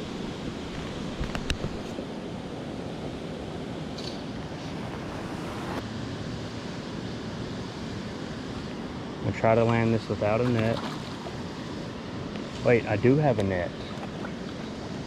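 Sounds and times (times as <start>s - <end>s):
river water: 0.0s - 15.0s.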